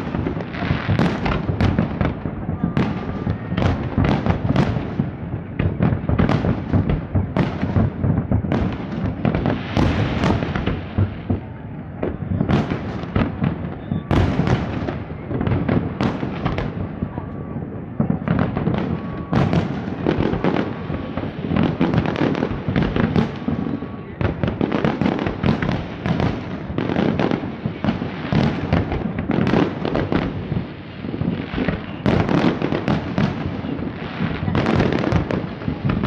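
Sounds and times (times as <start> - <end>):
fireworks bangs: 0.0 - 36.0
fireworks crackling: 0.0 - 36.0.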